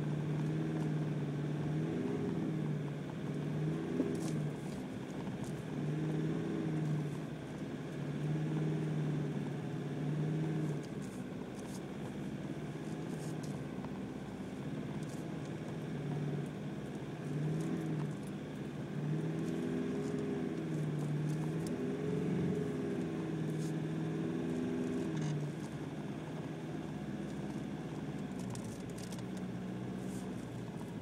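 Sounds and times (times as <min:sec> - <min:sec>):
car engine revving: 0:00.0 - 0:31.0
tyre and road noise: 0:00.0 - 0:31.0.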